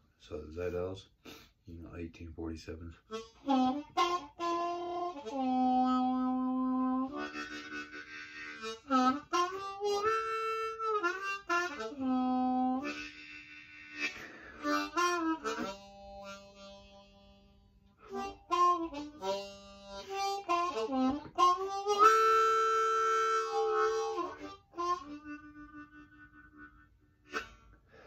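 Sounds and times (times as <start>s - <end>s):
harmonica playing: 3.0s - 28.0s.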